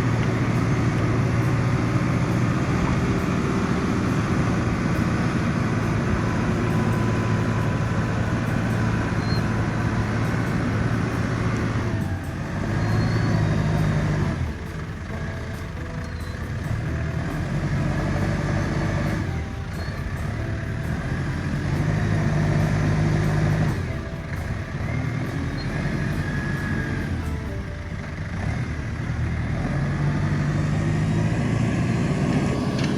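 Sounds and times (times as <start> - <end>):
tractor diesel engine under load: 0.0 - 32.9.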